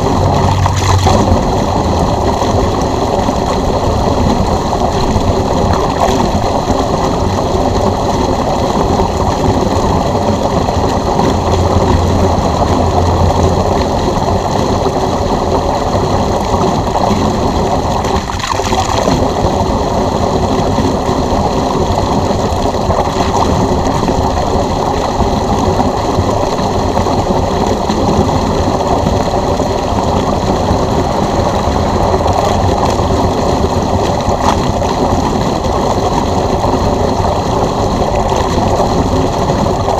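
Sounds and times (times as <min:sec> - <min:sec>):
pump humming: 0:00.0 - 0:39.9
water rushing from a hose: 0:00.0 - 0:39.9.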